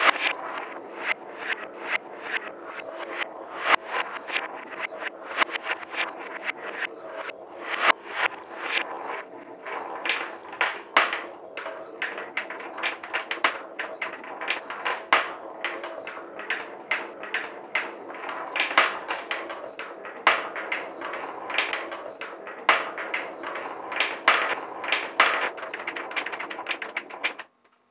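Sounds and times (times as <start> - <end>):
steel balls rolling on wooden track: 0.0 - 27.6
balls clicking and clacking: 0.0 - 27.8.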